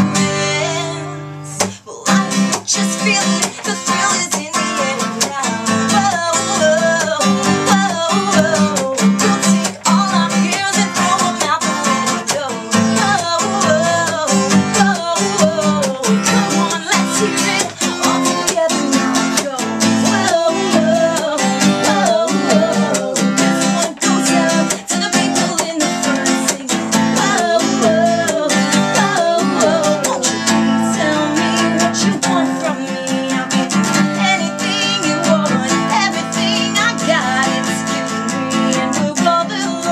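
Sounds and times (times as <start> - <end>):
acoustic guitar strumming: 0.0 - 39.9
woman singing: 0.0 - 39.9.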